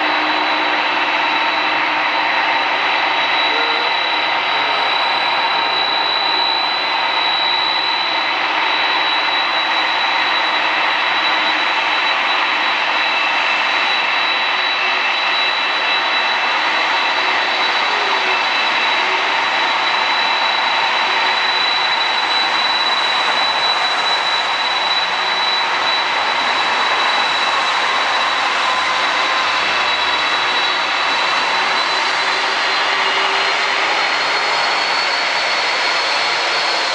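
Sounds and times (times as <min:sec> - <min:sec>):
high steady whine: 0:00.0 - 0:36.9
jet engines running: 0:00.0 - 0:36.9.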